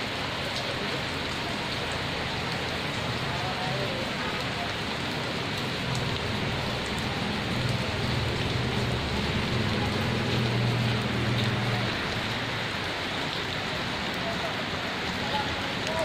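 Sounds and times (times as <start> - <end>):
rain on leaves and ground: 0.0 - 16.0.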